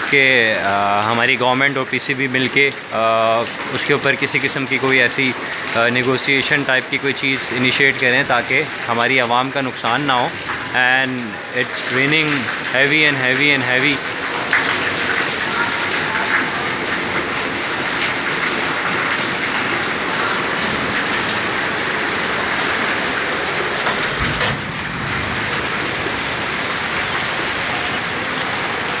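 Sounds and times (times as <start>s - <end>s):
heavy rain on pavement: 0.0s - 29.0s.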